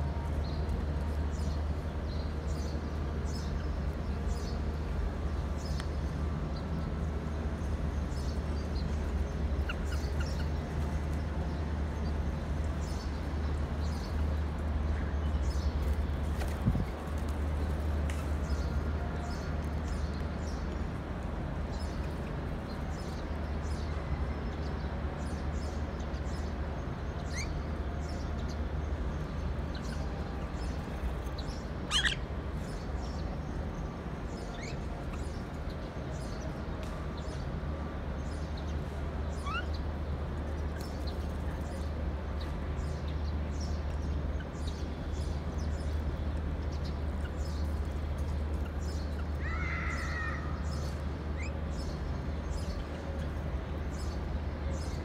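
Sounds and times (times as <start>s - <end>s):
low outdoor background rumble: 0.0s - 55.0s.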